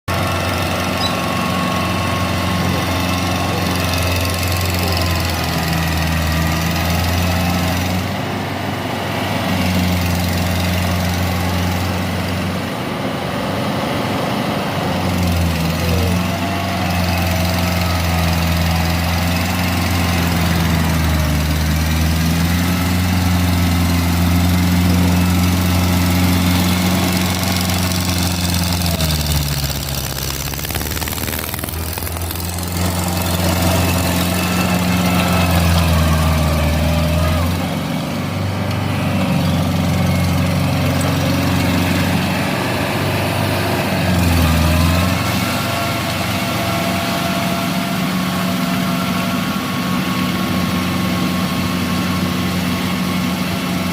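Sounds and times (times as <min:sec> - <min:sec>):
tractor engine running: 0:00.1 - 0:53.9.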